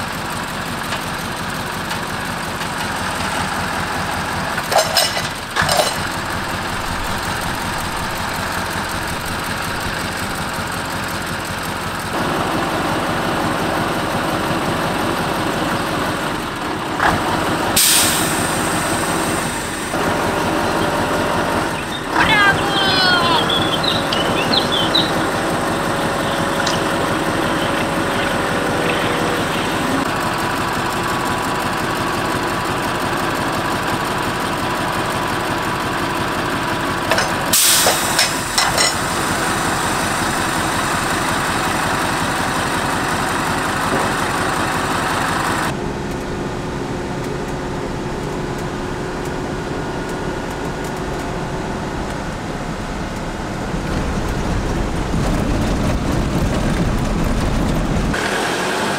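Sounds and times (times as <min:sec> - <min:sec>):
engine running: 0:00.0 - 0:58.9.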